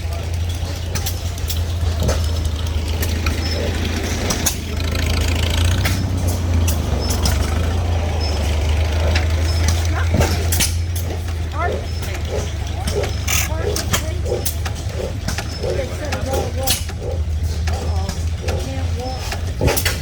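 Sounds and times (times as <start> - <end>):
engine clicks and pops: 0.0 - 20.0
stationary engines droning: 0.0 - 20.0.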